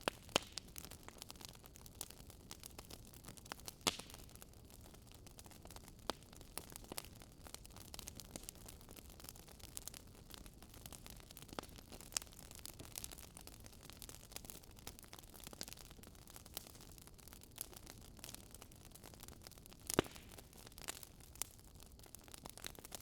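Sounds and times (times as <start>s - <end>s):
fire popping: 0.0s - 23.0s.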